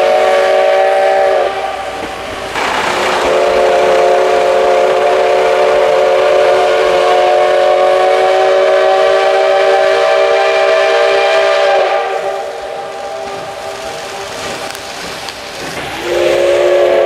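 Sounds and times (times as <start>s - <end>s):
steam locomotive whistle: 0.0s - 14.8s, 15.6s - 17.0s.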